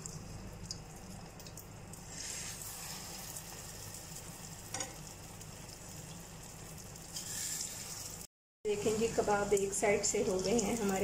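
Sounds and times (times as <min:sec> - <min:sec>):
food sizzling in oil: 0:02.0 - 0:11.0.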